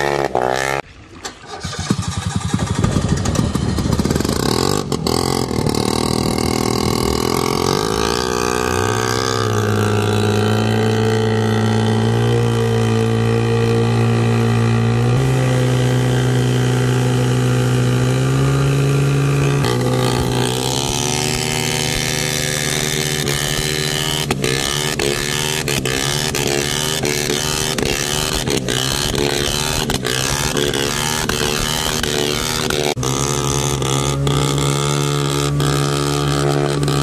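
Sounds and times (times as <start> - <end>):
two-stroke boat engine revving: 0.0 - 37.0.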